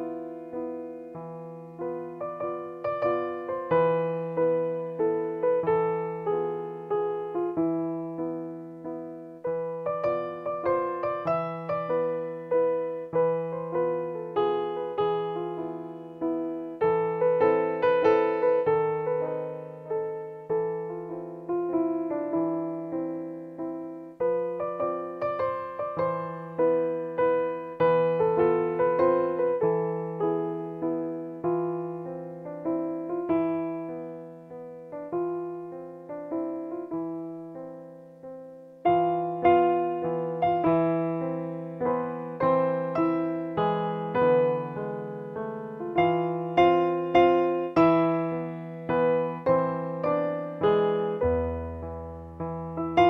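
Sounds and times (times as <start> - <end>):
digital piano playing: 0.0 - 53.0.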